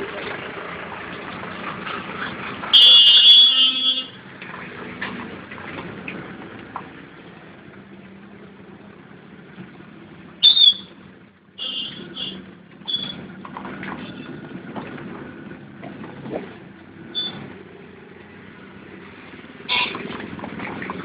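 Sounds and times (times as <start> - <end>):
street noise on wet road: 0.0 - 21.0.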